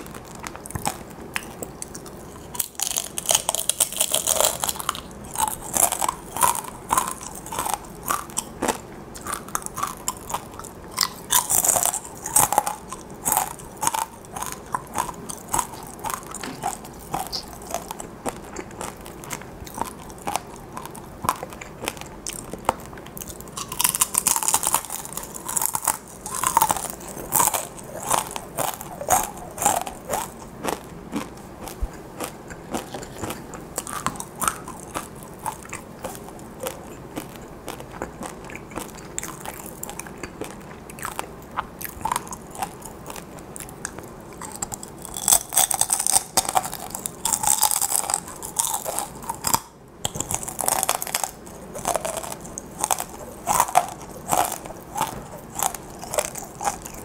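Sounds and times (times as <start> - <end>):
crunchy chewing of chips: 0.0 - 57.0.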